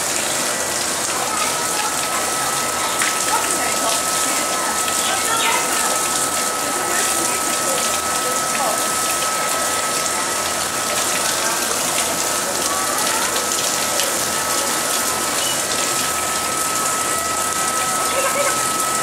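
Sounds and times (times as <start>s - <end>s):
water gushing into a pool: 0.0s - 19.0s
steady high-pitched tone: 0.1s - 19.0s.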